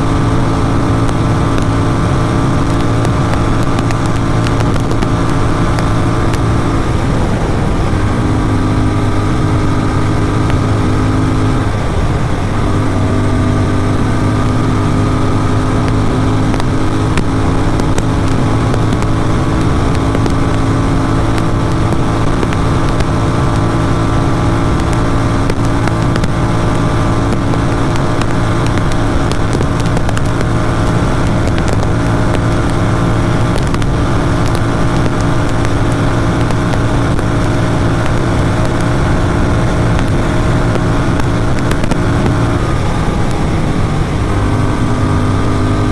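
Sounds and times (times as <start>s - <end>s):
motorcycle engine at high speed: 0.0s - 45.9s
wind rushing: 0.0s - 45.9s.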